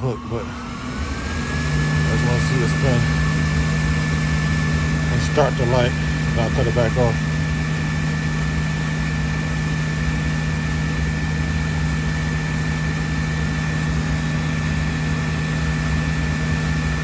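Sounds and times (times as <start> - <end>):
high whine: 0.0 - 15.8
furnace motor humming: 0.0 - 17.0.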